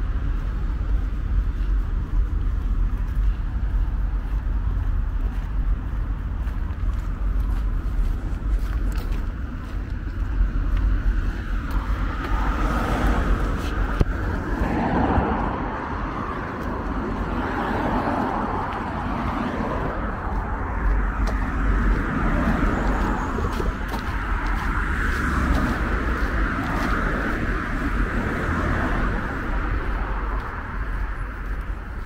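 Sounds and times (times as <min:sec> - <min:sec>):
low traffic rumble: 0:00.0 - 0:32.0
vehicles passing: 0:00.0 - 0:32.0.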